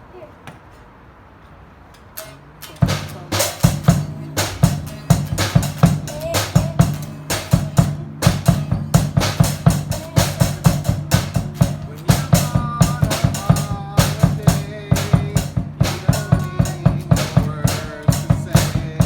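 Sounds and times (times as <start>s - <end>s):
held higher notes: 2.2s - 19.0s
rock drum kit beat: 2.2s - 19.0s
bass: 2.6s - 19.0s.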